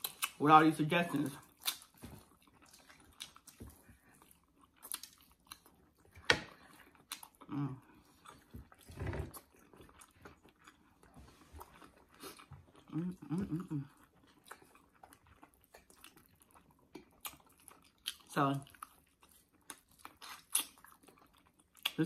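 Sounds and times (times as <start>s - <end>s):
people chewing with wet smacks: 0.0s - 22.0s.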